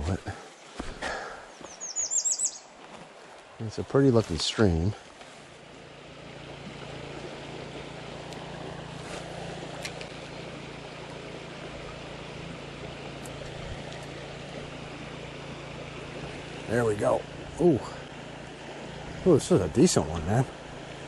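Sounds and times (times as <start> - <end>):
creek flowing over rocks: 2.7 - 21.0.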